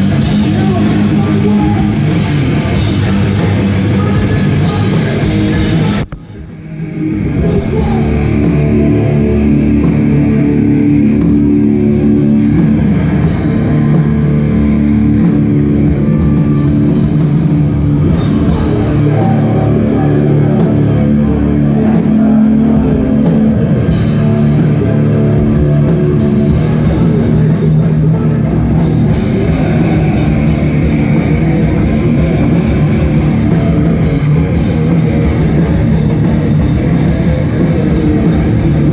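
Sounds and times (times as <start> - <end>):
hardcore band playing live: 0.0 - 38.9.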